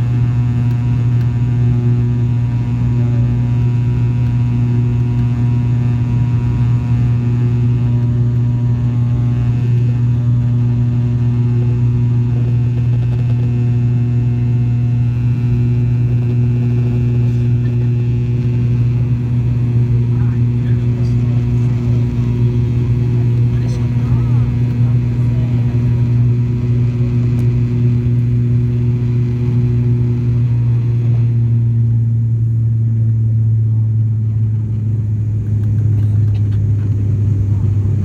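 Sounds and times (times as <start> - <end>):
propeller drone: 0.0 - 38.0
steady higher engine tones: 0.0 - 38.0.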